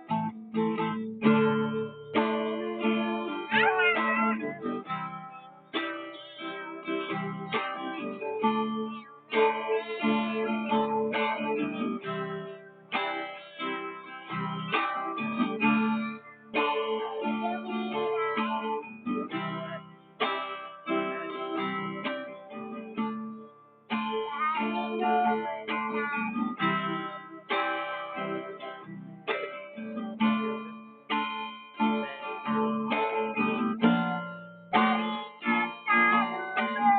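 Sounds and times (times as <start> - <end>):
acoustic guitar plucking: 0.0 - 36.9.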